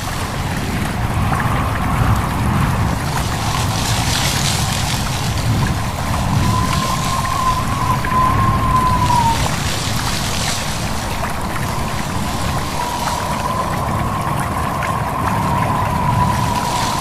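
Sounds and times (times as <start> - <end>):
stream rushing and trickling: 0.0 - 17.0
wind whistle: 0.0 - 17.0.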